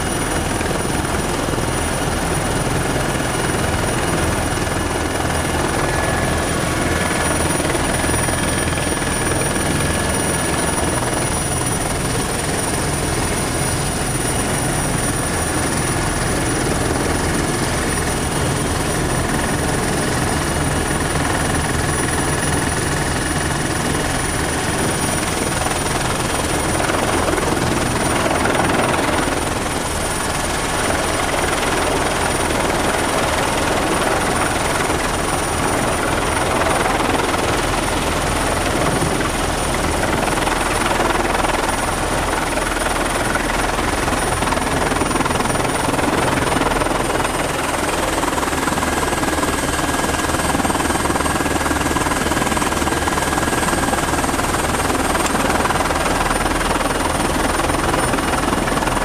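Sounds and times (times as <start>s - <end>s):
helicopter rotor and engine noise: 0.0s - 59.0s
high turbine whine: 0.0s - 59.0s.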